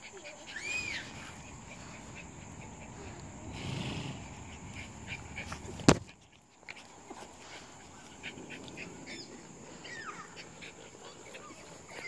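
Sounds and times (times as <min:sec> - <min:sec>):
puppies making small sounds: 0:00.0 - 0:03.5, 0:04.2 - 0:12.0.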